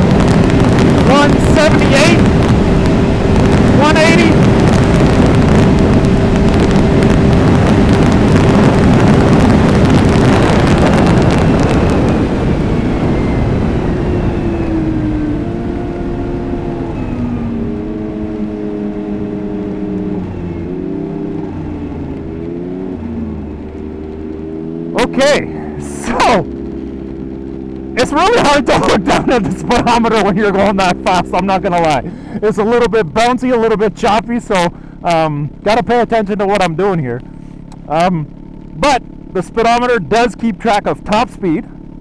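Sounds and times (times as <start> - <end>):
heavy wind rush: 0.0 - 39.0
snowmobile engine at full throttle: 0.0 - 42.0.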